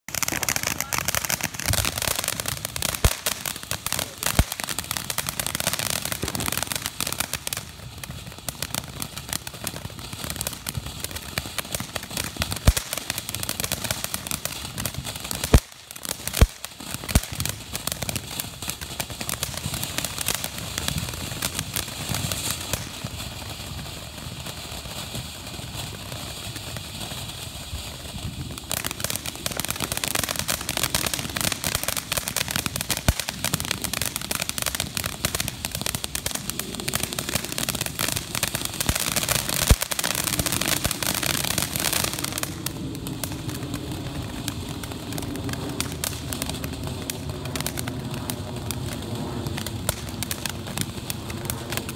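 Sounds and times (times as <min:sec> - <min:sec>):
firework hissing and crackling: 0:00.1 - 0:51.9
sharp firework pops: 0:00.1 - 0:51.9.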